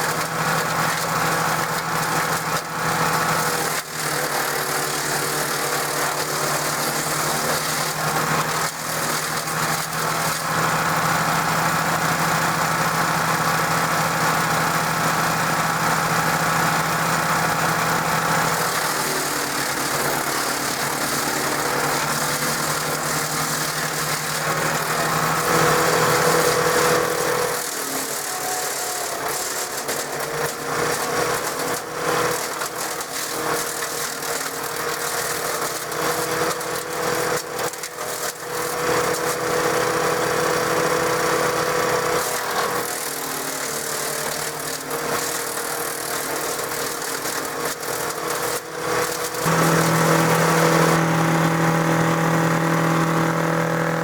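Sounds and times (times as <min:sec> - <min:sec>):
wood chipper engine running: 0:00.0 - 0:54.0.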